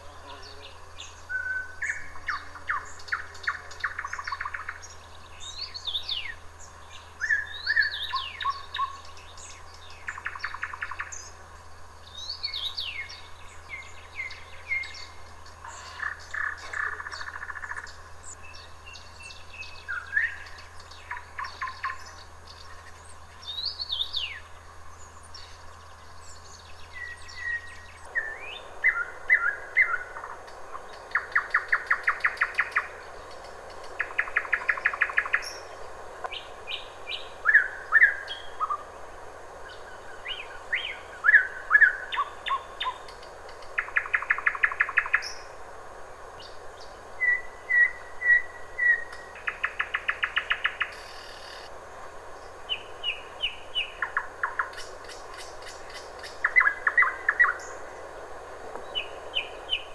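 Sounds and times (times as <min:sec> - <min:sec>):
nightingale singing: 0:00.0 - 0:45.6, 0:46.4 - 0:51.7, 0:52.4 - 0:58.0, 0:58.8 - 0:59.9.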